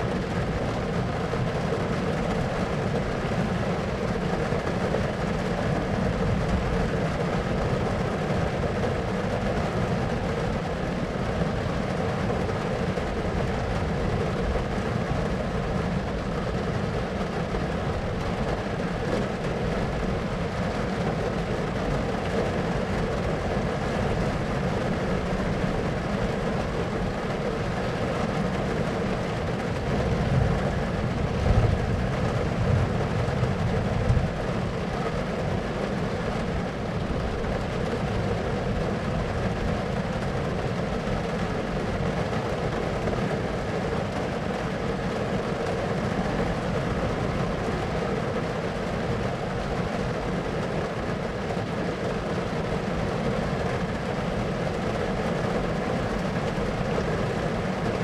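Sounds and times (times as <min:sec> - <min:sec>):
steady rain noise: 0:00.0 - 0:58.0.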